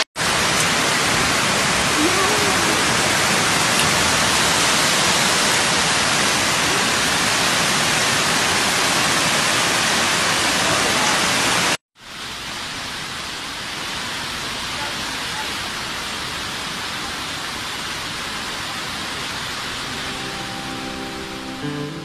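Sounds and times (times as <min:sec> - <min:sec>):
floodwater rushing: 0:00.0 - 0:11.8, 0:13.8 - 0:22.0
heavy rain: 0:00.0 - 0:22.0.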